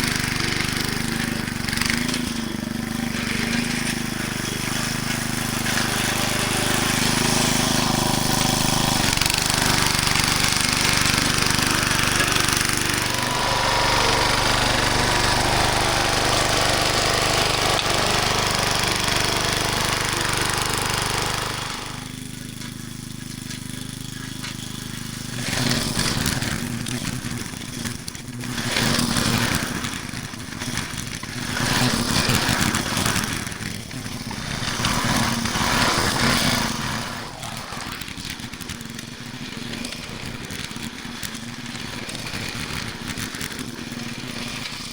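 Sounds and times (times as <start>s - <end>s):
garden tiller engine running: 0.0s - 44.9s.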